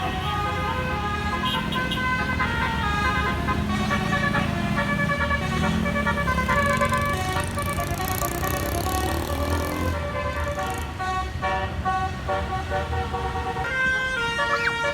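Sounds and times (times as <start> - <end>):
low rumble of bus engine: 0.0 - 14.9.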